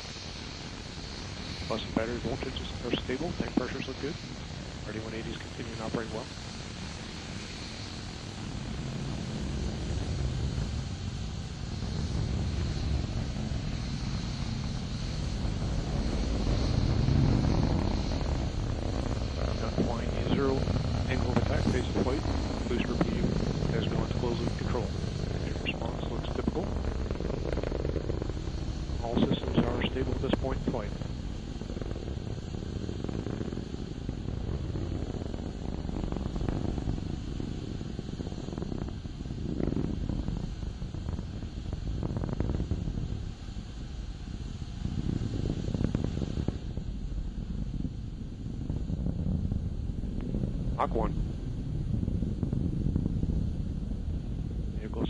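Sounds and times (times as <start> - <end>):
rocket engine rumble: 0.0 - 55.0.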